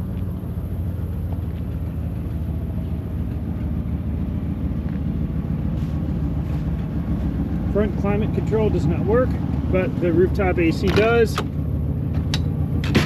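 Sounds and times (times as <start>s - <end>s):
engine idling with low rumble: 0.0s - 13.0s.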